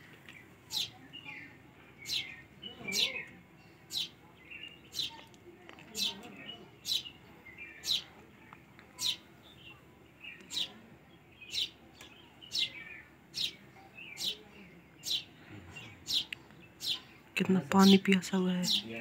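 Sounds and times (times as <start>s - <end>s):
small bird chirping: 0.2s - 19.0s.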